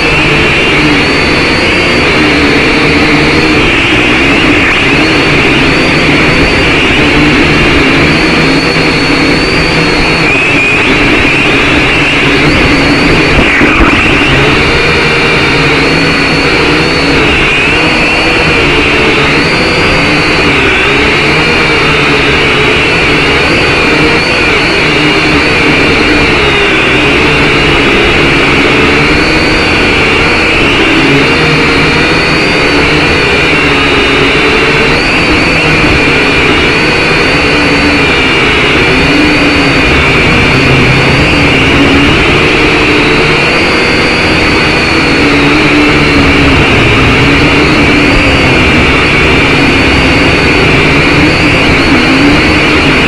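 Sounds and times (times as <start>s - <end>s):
drone propellers whirring: 0.0s - 53.0s
wind noise: 0.0s - 53.0s.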